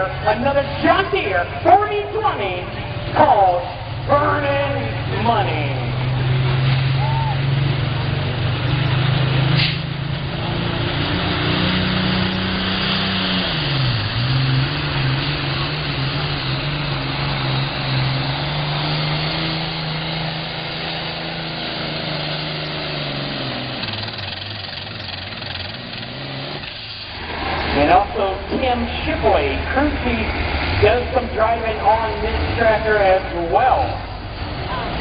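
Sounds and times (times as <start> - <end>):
tractor engine under full load: 0.0 - 35.0.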